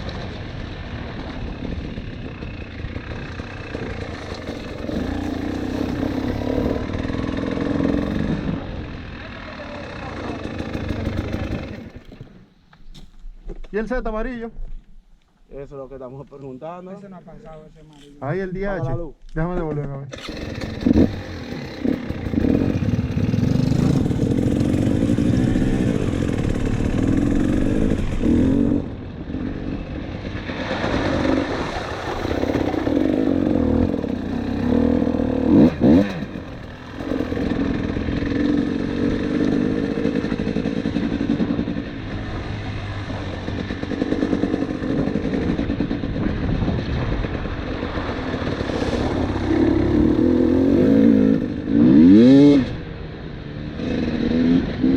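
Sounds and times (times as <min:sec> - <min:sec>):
dirt bike engine revving: 0:00.1 - 0:12.5, 0:20.1 - 0:54.9.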